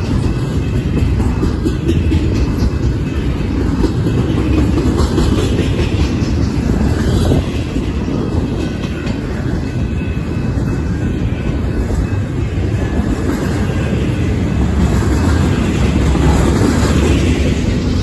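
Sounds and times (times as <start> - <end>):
steel train wheels on rail: 0.0 - 18.0.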